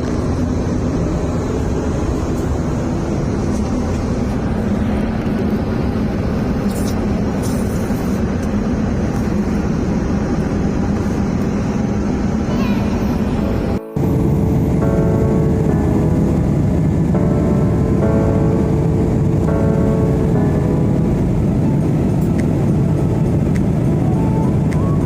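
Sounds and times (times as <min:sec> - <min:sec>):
airliner cabin engine rush: 0:00.0 - 0:25.0
constant low hum: 0:00.0 - 0:25.0.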